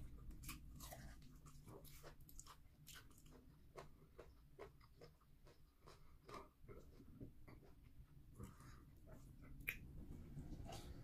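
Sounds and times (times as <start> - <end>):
wet chewing mouth sounds: 0.0 - 11.0.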